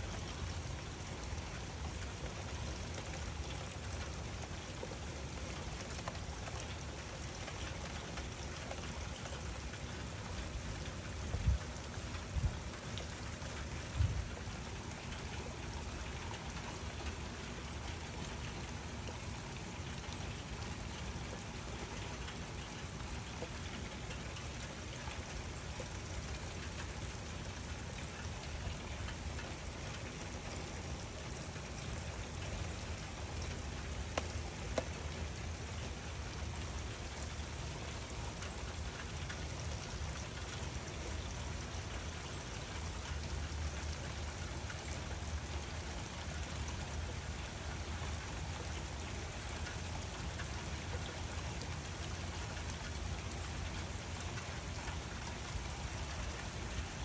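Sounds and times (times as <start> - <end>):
steady rain: 0.0 - 57.0
water drip ticks: 0.0 - 57.0.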